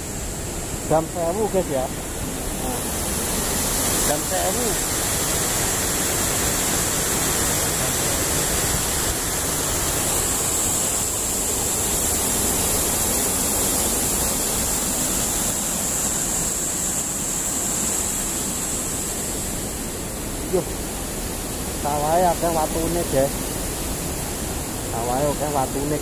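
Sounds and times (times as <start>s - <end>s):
water rushing over weir: 0.0s - 26.0s.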